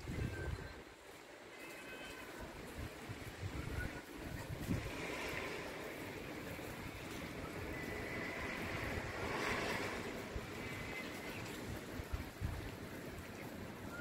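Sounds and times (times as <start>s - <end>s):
wind rumble on microphone: 0.0s - 1.6s, 2.2s - 14.0s
steady rain falling: 0.0s - 14.0s.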